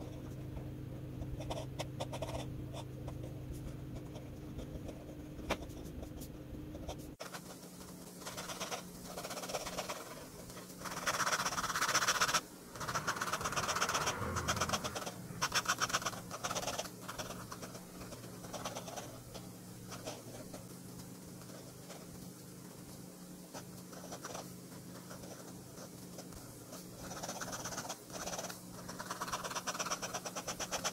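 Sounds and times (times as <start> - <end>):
pen nib scratching on paper: 1.2 - 22.2, 23.5 - 30.9.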